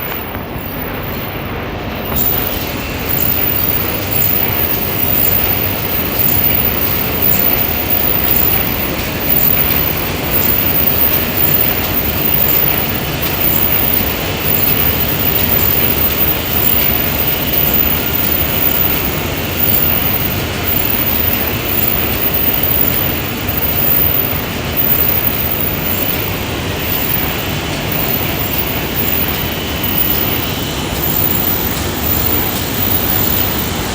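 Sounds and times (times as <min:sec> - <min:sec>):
bag-making machinery running: 0:00.0 - 0:33.9.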